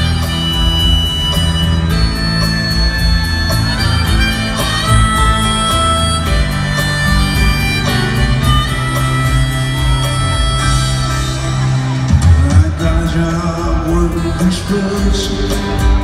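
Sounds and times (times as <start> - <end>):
harmonica long held notes: 0.0 - 13.4
live rock band: 0.0 - 16.0.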